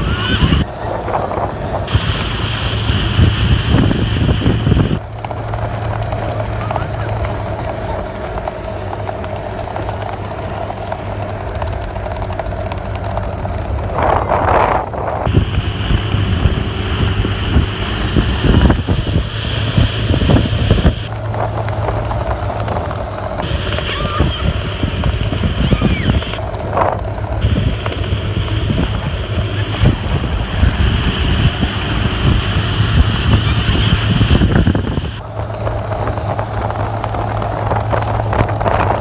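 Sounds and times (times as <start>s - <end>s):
motorboat engine humming: 0.0s - 39.0s
rushing boat wake: 0.0s - 39.0s
wind buffeting microphone: 0.0s - 39.0s.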